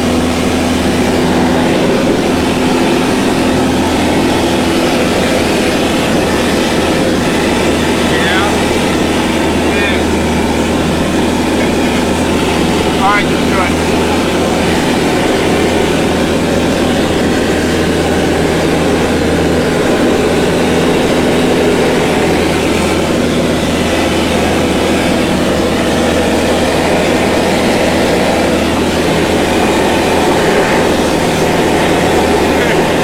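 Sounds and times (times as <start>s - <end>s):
loud engine drone: 0.0s - 33.0s.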